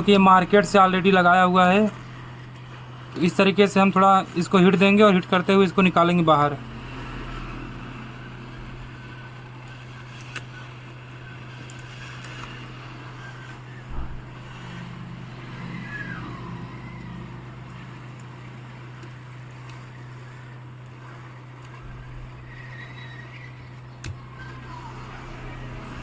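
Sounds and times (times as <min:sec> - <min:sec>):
hot air blower humming: 0:00.0 - 0:26.0.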